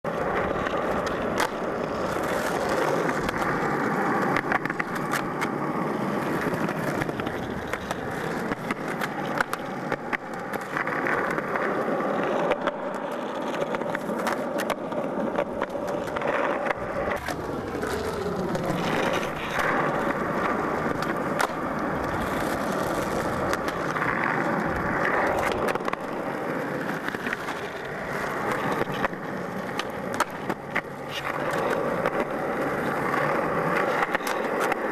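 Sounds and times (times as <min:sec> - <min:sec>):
skateboard clacks: 0:00.0 - 0:34.9
skateboard wheels rolling on concrete: 0:00.0 - 0:34.9.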